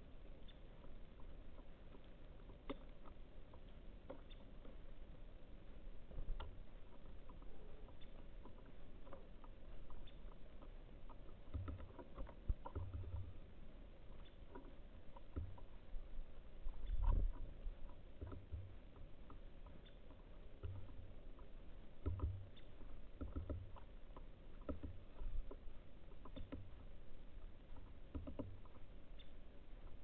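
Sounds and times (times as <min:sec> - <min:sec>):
birds pecking at seed feeder: 0:00.1 - 0:30.0.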